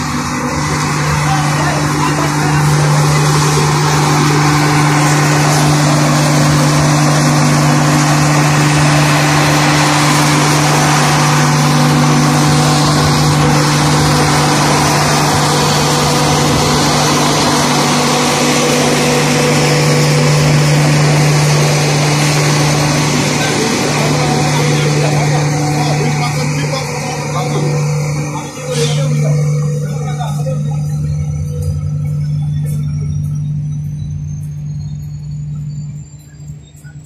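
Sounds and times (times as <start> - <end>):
diesel generator humming: 0.0 - 37.0.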